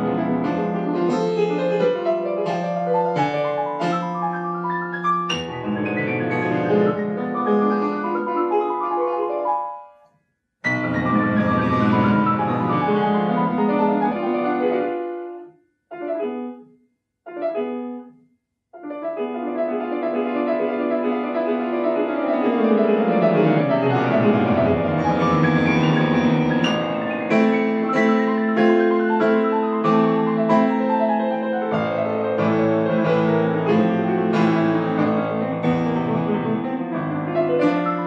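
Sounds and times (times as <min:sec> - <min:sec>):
solo grand piano: 0:00.0 - 0:10.0, 0:10.6 - 0:18.2, 0:18.8 - 0:38.0.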